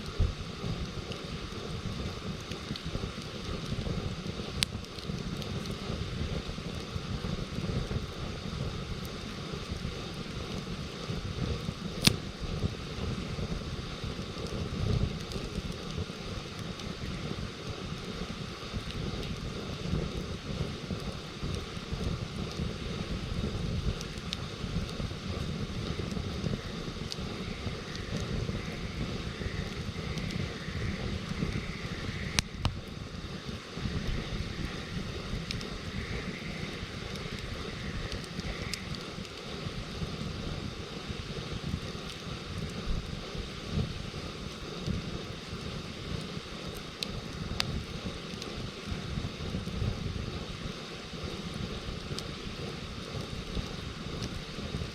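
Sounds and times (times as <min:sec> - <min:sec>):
campfire crackling: 0:00.0 - 0:54.9
wind on microphone: 0:00.0 - 0:54.9.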